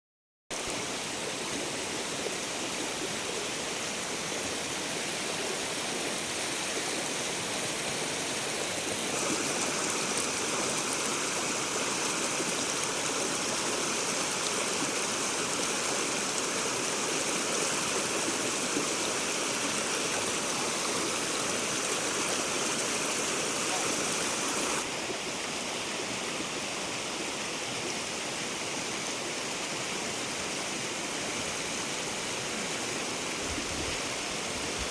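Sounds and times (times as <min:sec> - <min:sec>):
stream water rushing: 0:00.5 - 0:34.9.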